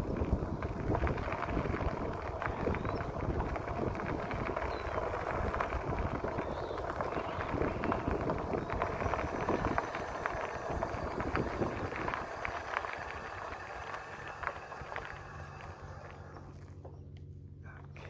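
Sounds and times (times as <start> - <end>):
wind and tyre noise: 0.0 - 17.5
low steady hum: 0.0 - 18.0.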